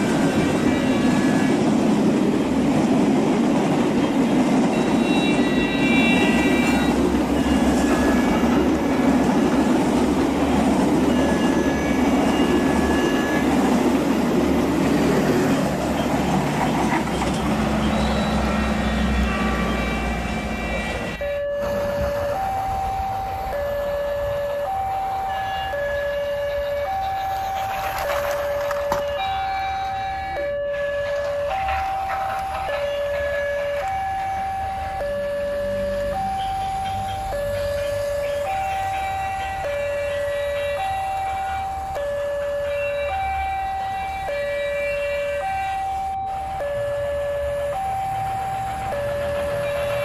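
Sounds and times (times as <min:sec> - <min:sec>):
train squeals: 0:00.0 - 0:01.7, 0:03.8 - 0:50.0
train rumbling: 0:00.0 - 0:50.0.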